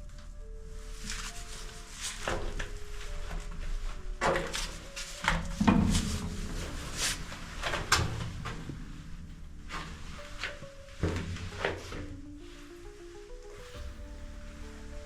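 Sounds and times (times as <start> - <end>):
footsteps crunching: 0.8 - 15.0.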